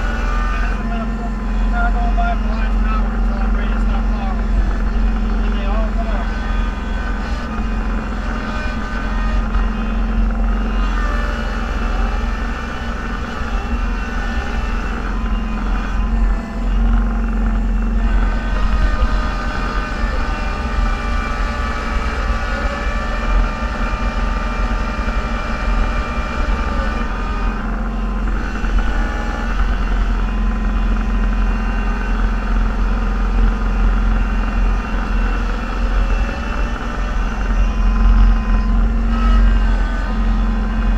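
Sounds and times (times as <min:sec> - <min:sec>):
vehicle engine droning: 0:00.0 - 0:40.9.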